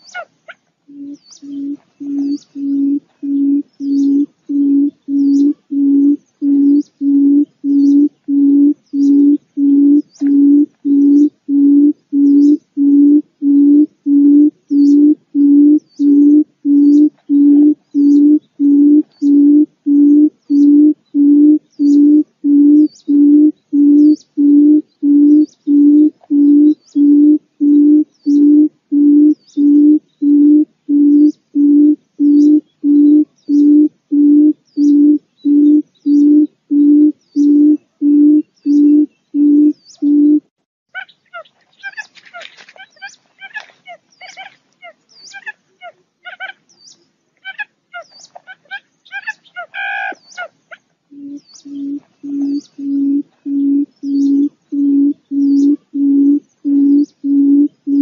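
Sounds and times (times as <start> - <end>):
bird hooting: 0.0 - 42.1, 47.4 - 58.0.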